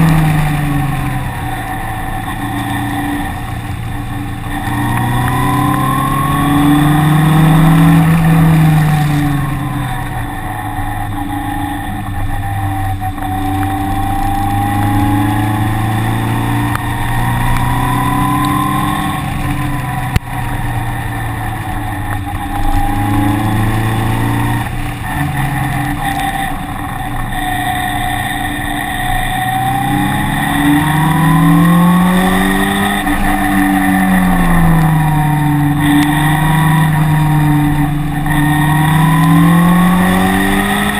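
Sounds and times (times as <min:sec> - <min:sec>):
engine accelerating: 0:00.0 - 0:40.9.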